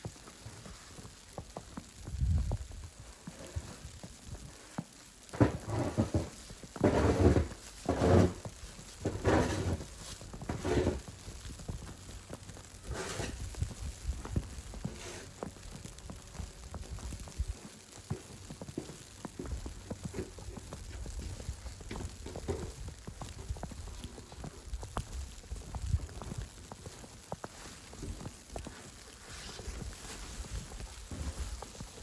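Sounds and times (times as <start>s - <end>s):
footsteps crunching in snow: 0.0s - 32.0s.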